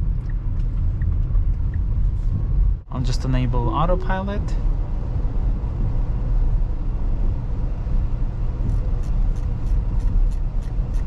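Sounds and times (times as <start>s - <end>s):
road and tyre rumble in car: 0.0s - 11.0s.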